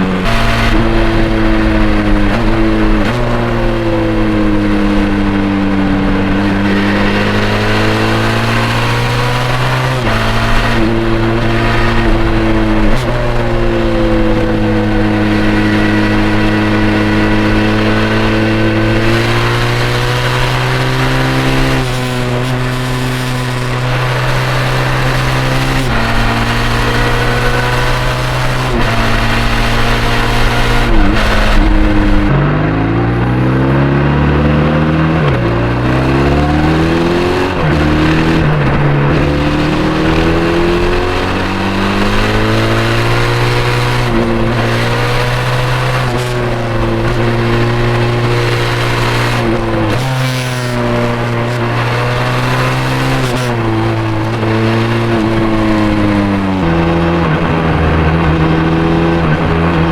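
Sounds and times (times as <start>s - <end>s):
motorcycle engine revving: 0.0s - 59.9s
road and wind noise: 0.0s - 59.9s.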